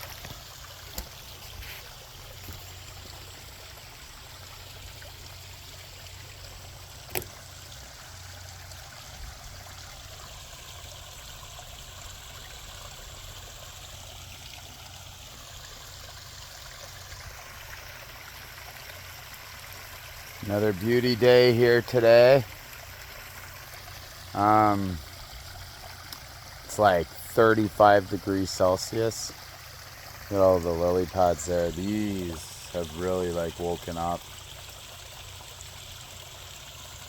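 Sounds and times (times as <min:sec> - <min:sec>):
water trickling: 0:00.0 - 0:37.0.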